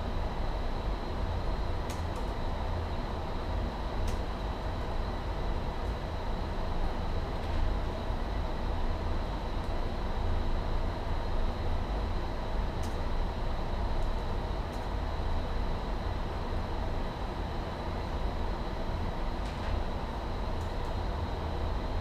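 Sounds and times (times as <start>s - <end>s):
air conditioning rumble and hiss: 0.0s - 22.0s.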